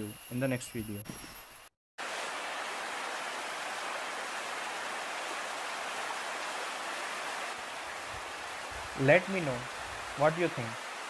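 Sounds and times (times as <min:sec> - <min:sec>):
flowing water rushing: 0:02.0 - 0:11.0.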